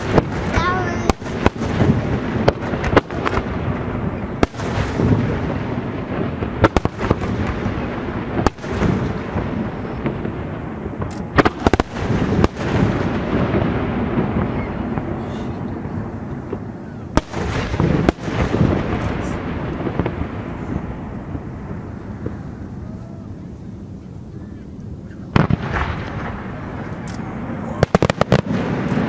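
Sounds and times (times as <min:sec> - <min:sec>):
fireworks bursting with booms: 0:00.0 - 0:29.0
low rolling rumble: 0:00.0 - 0:29.0.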